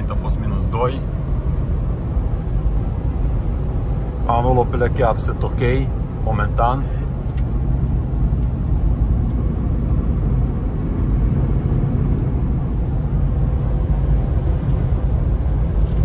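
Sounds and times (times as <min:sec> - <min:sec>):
wind rushing around car: 0:00.0 - 0:16.0.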